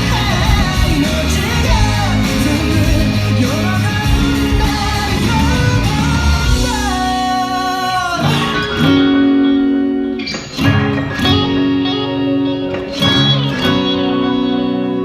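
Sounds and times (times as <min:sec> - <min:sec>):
guitar chords ringing: 0:00.0 - 0:15.0.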